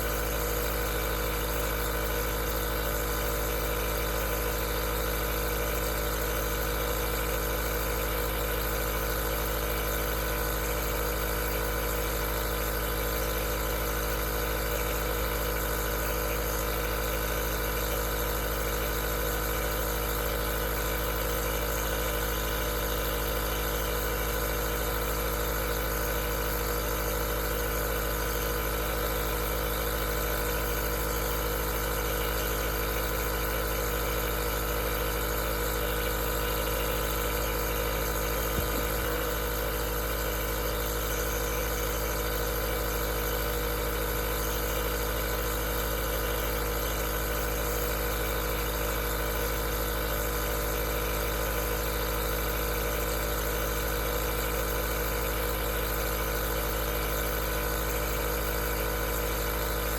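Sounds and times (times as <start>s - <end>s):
nebulizer compressor humming: 0.0s - 59.9s.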